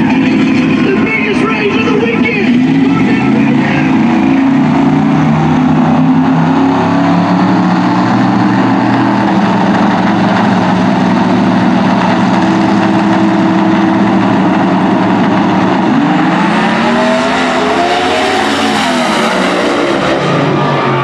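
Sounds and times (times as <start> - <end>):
race car engine running: 0.0 - 21.0.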